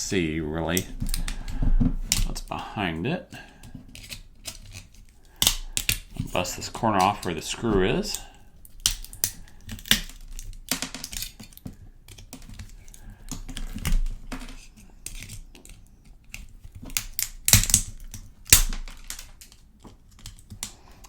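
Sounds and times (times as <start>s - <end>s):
plastic casing cracking and clicking: 3.6s - 20.8s.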